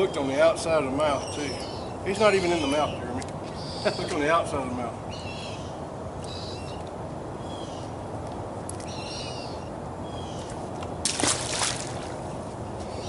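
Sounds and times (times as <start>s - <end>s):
birds calling: 0.0s - 8.1s, 8.7s - 13.0s.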